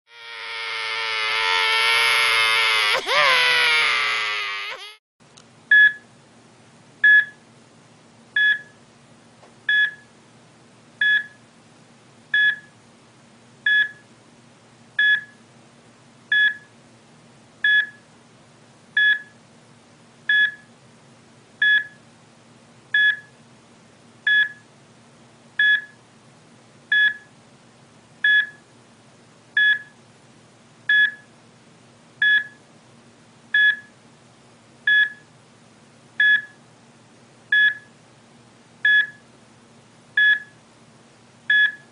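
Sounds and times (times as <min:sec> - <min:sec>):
faint steady hum: 0:00.1 - 0:41.9.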